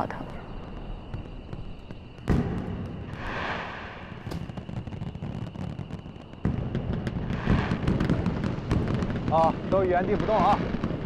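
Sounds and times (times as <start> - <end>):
firework hiss and crackles: 0.0 - 11.0
firework bang: 0.5 - 11.0.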